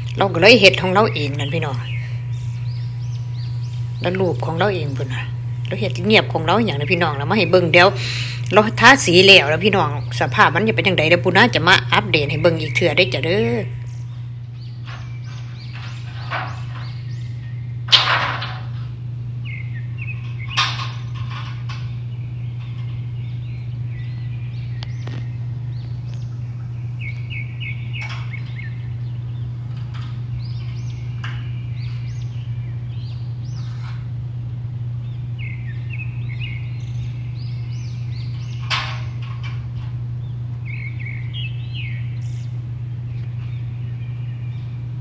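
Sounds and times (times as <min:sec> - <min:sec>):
small birds chirping: 0:00.0 - 0:45.0
steady low hum: 0:00.0 - 0:45.0.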